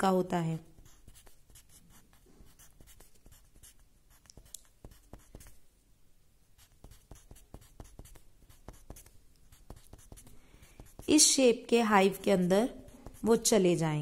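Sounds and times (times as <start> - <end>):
pencil scratching on paper: 0.6 - 5.6, 6.6 - 13.7.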